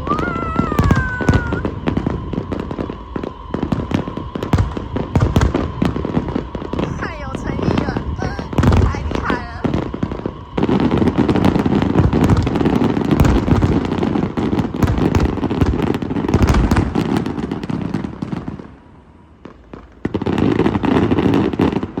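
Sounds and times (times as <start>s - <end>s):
fireworks booming and crackling: 0.0s - 22.0s.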